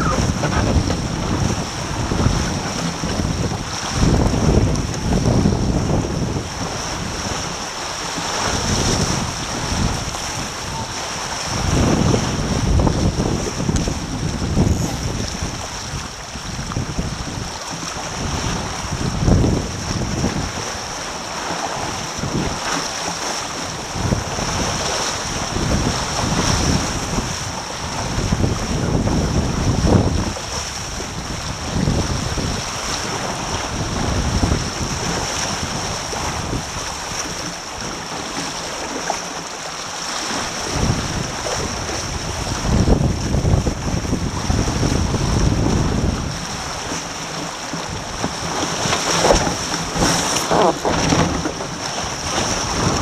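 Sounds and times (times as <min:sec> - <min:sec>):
wind buffeting microphone: 0:00.0 - 0:22.7, 0:23.6 - 0:38.1, 0:40.3 - 0:53.0
water rushing past hulls: 0:00.0 - 0:53.0.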